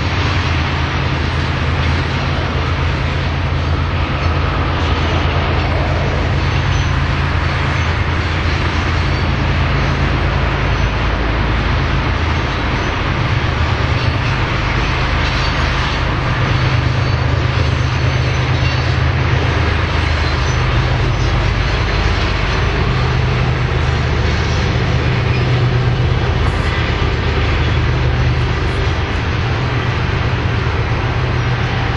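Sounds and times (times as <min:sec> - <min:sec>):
low steady drone: 0:00.0 - 0:31.9
train wheels rumbling on rails: 0:00.0 - 0:31.9.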